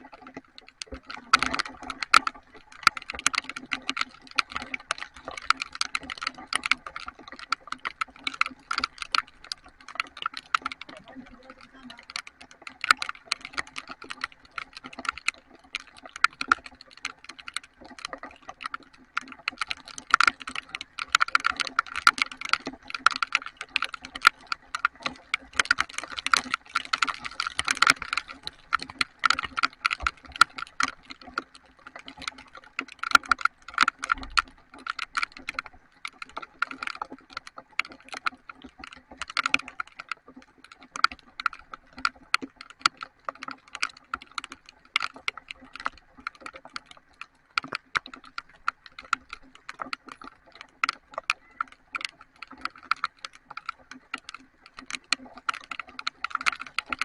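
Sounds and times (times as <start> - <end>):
heavy raindrops tapping: 0.0 - 57.0.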